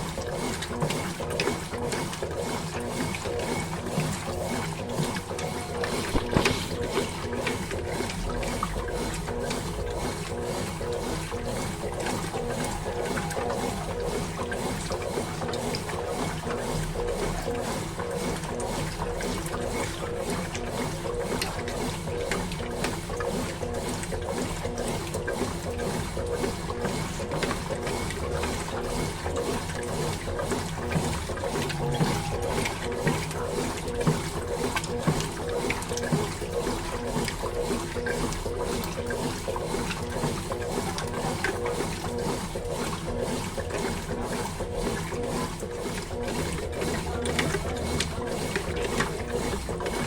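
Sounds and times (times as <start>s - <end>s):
steady mechanical hum: 0.0s - 50.0s
water sloshing in washing machine: 0.0s - 50.0s.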